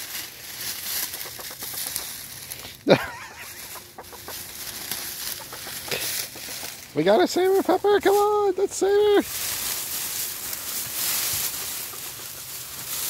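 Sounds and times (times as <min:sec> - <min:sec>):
dry leaves rustling: 0:00.0 - 0:13.0
hen clucking: 0:00.0 - 0:13.0.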